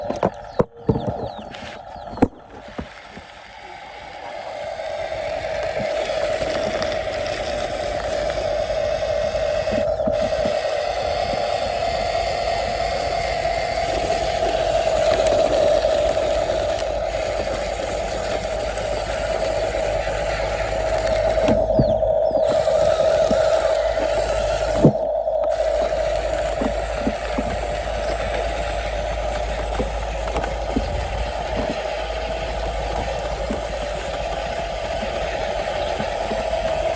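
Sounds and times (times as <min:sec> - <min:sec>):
toy truck electric motor whining: 0:00.0 - 0:36.9.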